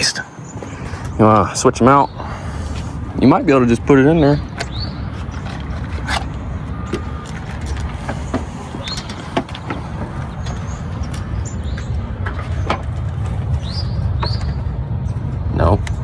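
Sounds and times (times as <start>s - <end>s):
engine idling with low rumble: 0.0s - 16.0s.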